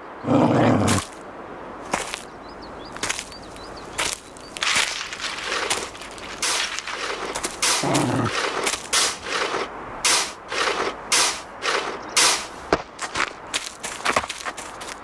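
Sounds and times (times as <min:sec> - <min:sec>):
bear claws scraping soil: 0:00.5 - 0:01.2, 0:03.0 - 0:15.0.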